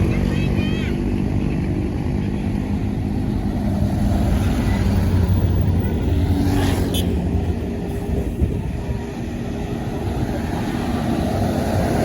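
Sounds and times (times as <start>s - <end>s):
heavy diesel vehicle passing: 0.0s - 12.0s
low rumble of traffic: 0.0s - 12.0s.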